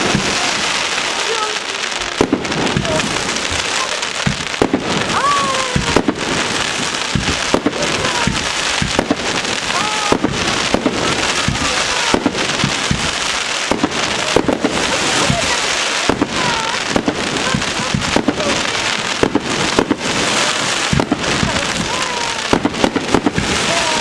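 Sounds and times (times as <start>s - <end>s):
fireworks crackling and fizzling: 0.0s - 24.0s
fireworks shells bursting bangs: 0.0s - 24.0s.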